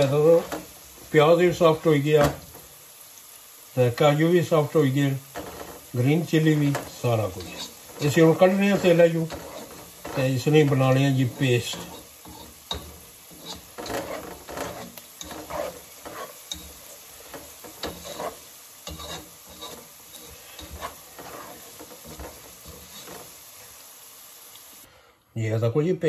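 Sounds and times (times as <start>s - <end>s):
spatula scraping a saucepan: 0.0s - 2.7s, 4.0s - 23.7s
faint sizzle of frying: 0.0s - 26.0s.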